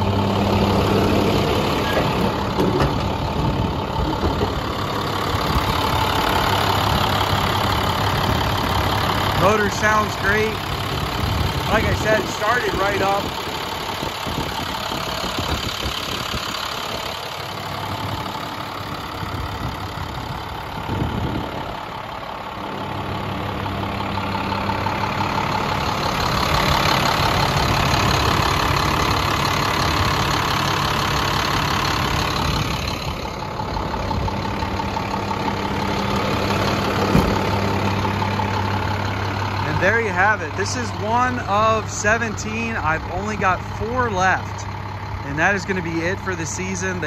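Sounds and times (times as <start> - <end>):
diesel engine idling: 0.0 - 47.0.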